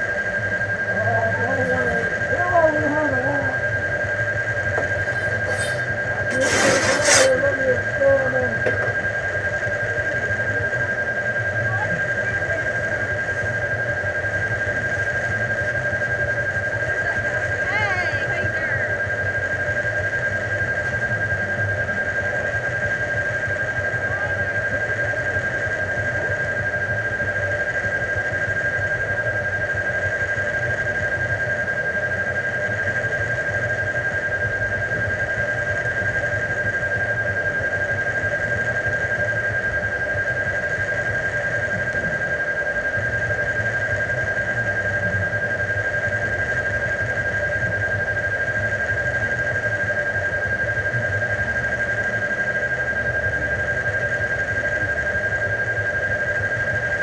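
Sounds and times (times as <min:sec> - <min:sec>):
low wavering hum: 0:00.0 - 0:57.0
steady high-pitched tone: 0:00.0 - 0:57.0.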